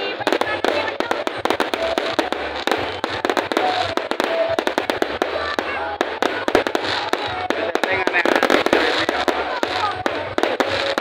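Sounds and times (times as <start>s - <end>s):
fireworks crackling: 0.0s - 11.0s
fireworks exploding: 0.0s - 11.0s.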